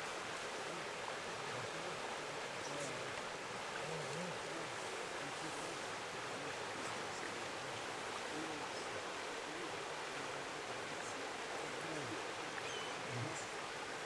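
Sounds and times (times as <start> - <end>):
creek rushing over logs: 0.0 - 14.0.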